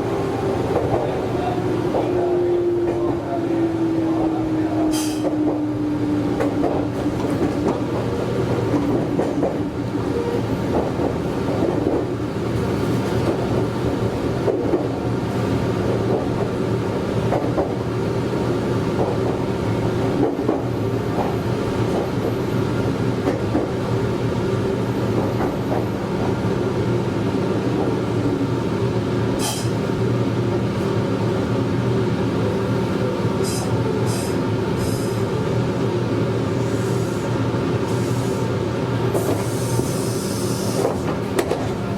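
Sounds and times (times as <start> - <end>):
train hum: 0.0 - 41.9.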